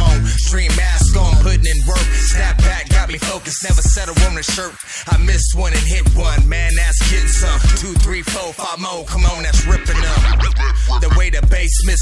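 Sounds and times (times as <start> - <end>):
rapping over hip hop beat: 0.0 - 12.0.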